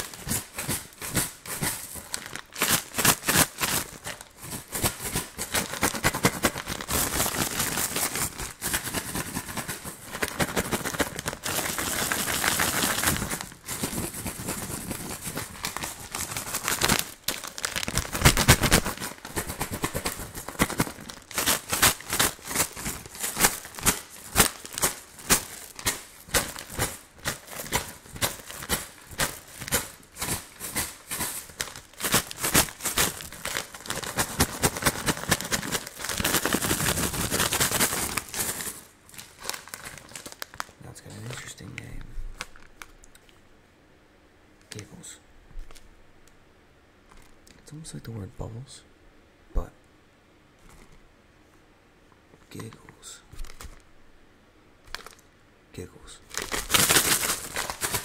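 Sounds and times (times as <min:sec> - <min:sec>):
bag of candies shaking: 0:00.0 - 0:43.0, 0:52.5 - 0:53.9, 0:54.9 - 0:58.0
plastic bag crinkling: 0:00.0 - 0:43.3, 0:52.4 - 0:53.9, 0:54.8 - 0:55.3, 0:56.2 - 0:58.0.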